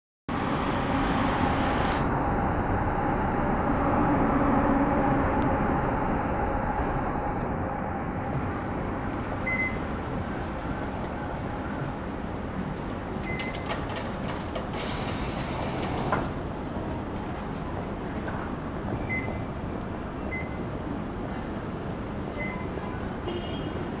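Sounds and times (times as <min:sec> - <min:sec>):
road traffic noise: 0:00.3 - 0:24.0.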